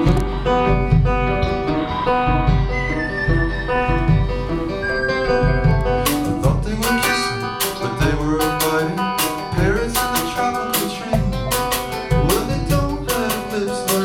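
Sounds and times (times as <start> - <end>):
song with plucked strings and beat: 0.0 - 14.0.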